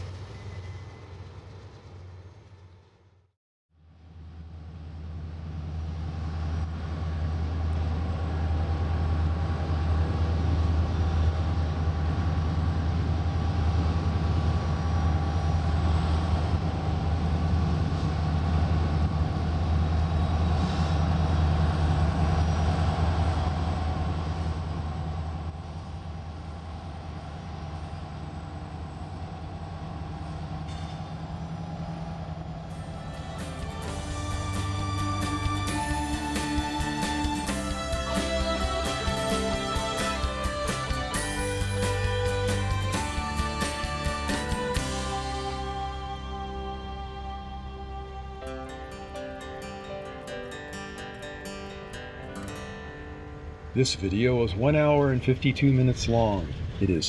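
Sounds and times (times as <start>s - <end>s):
locomotive engine drone: 0.0s - 57.0s
rumble of train cars: 0.0s - 57.0s.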